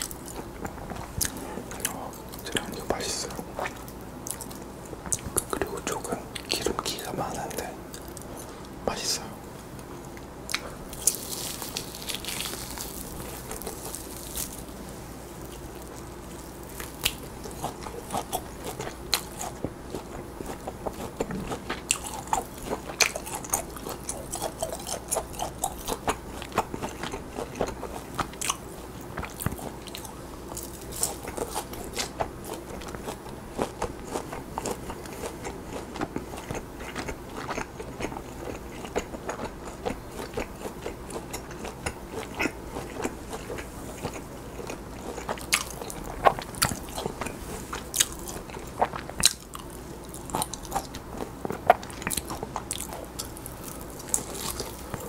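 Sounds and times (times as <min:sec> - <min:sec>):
chewing crunches: 0:00.0 - 0:08.8, 0:10.0 - 0:55.0
person chewing meat: 0:00.0 - 0:09.3, 0:10.0 - 0:55.0.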